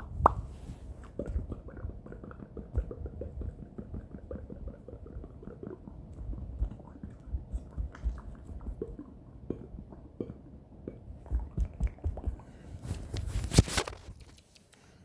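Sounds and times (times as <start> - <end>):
soft low thumps: 0.0 - 13.5
wet mouth clicks: 0.0 - 14.9.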